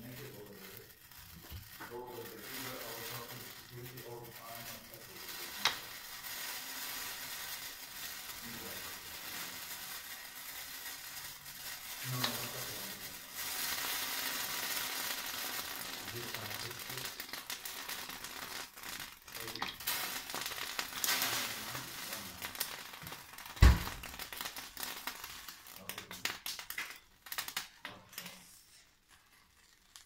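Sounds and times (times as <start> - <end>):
sizzling hiss from pot: 0.0 - 29.3.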